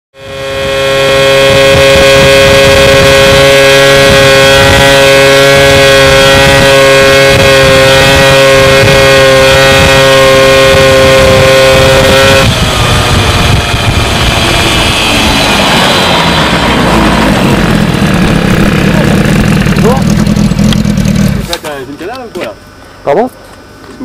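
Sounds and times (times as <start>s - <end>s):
motorcycle engine cruising: 0.1s - 24.0s
wind buffeting microphone: 0.6s - 21.1s.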